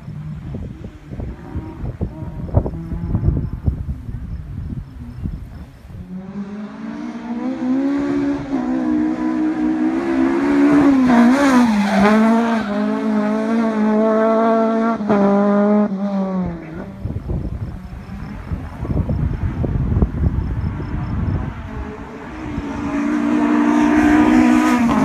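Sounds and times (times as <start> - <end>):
car engine at high revs: 0.0 - 25.0.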